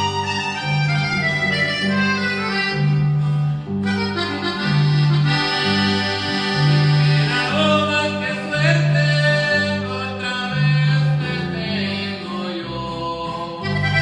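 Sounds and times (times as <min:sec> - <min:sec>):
accordion melody: 0:00.0 - 0:12.5, 0:13.2 - 0:14.0
electric bass: 0:00.0 - 0:14.0.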